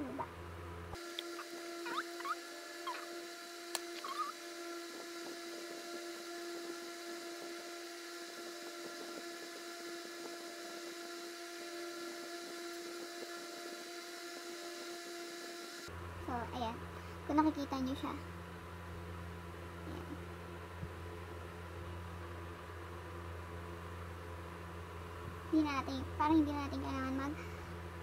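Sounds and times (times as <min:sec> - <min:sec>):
electric motor hum: 0:00.0 - 0:28.0.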